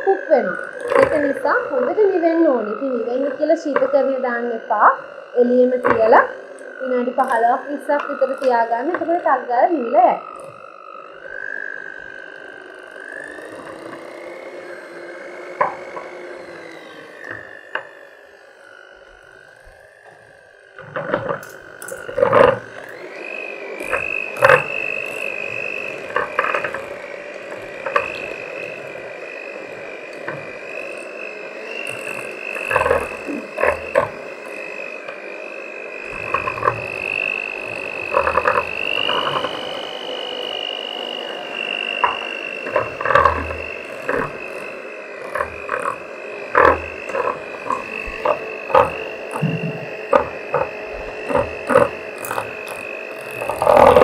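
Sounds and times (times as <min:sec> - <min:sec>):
electric mixer motor whine: 0:00.0 - 0:54.0.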